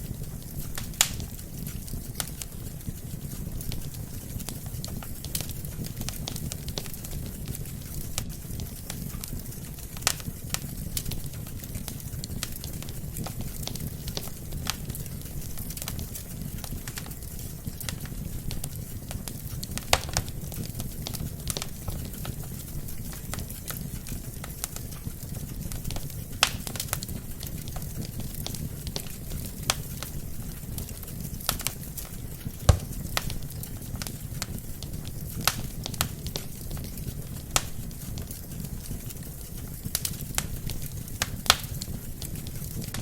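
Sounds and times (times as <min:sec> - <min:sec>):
logs crackling and popping: 0:00.0 - 0:43.0
low rumble of flames: 0:00.0 - 0:43.0.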